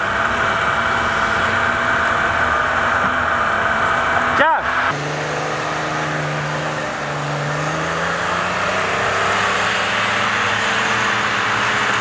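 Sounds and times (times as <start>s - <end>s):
engine running under load: 0.0s - 12.0s
tyres churning snow: 0.0s - 12.0s.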